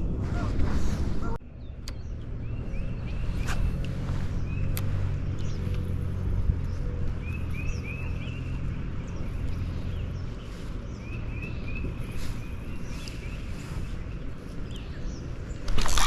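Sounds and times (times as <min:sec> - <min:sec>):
bird singing chirping notes: 0:01.3 - 0:16.0.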